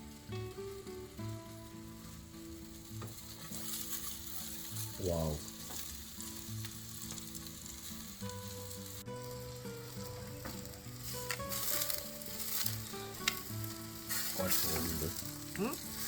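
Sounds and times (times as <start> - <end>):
food sizzling and crackling: 0.0 - 16.0
soft background music: 0.0 - 16.0.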